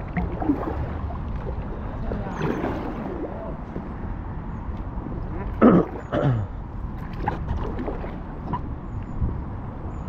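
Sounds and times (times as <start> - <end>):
water around kayak: 0.0 - 10.0
wind noise on microphone: 0.0 - 10.0.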